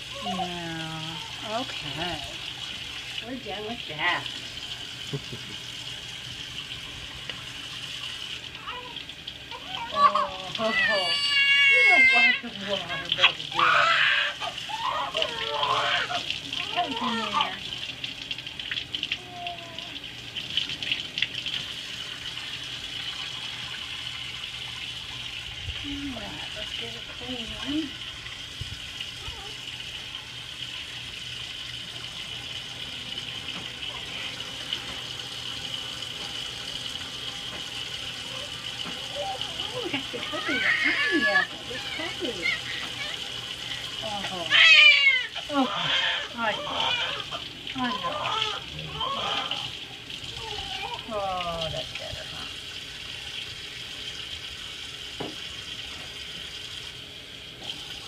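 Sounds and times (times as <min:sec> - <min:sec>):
faucet running into metal sink: 0:00.0 - 0:58.0.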